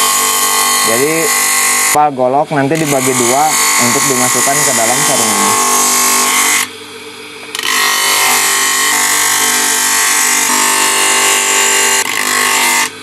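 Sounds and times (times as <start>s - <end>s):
wood grinding on sanding disc: 0.0s - 2.0s, 2.6s - 6.7s, 7.6s - 13.0s
electric motor humming: 0.0s - 13.0s.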